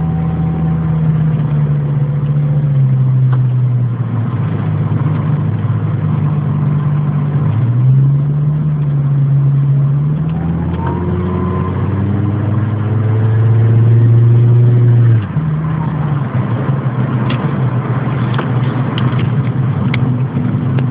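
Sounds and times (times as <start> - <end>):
car engine running under load: 0.0 - 20.9.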